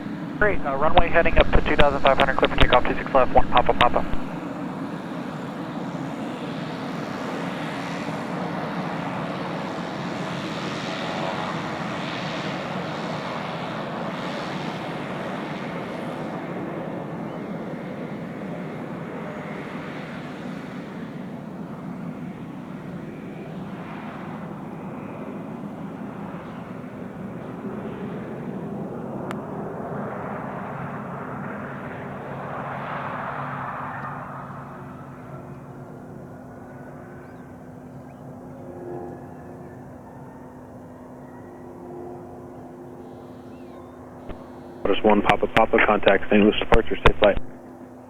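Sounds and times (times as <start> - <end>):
turboprop aircraft taking off: 0.0 - 40.4.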